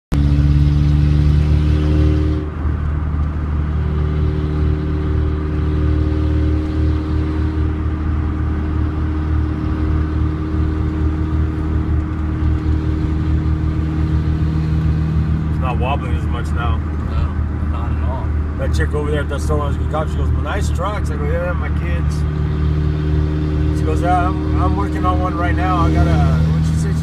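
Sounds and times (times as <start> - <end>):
road noise rumble: 0.1 - 27.0.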